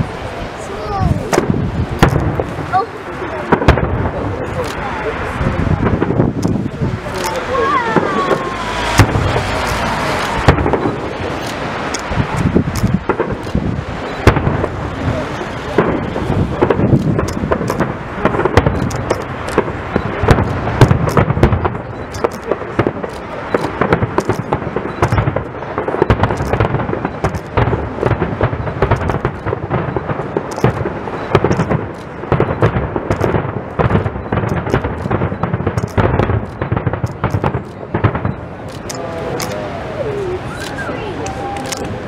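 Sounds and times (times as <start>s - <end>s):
firework shells bursting: 1.3s - 2.7s, 5.8s - 39.6s.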